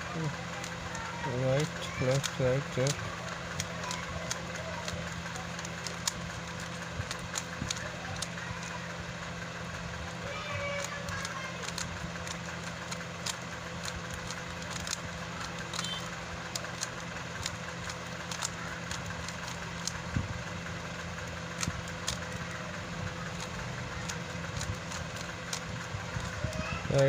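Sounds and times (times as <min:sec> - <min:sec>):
steady low hum: 0:00.0 - 0:27.0
puzzle cube plastic clicks: 0:00.2 - 0:08.9, 0:10.6 - 0:27.0.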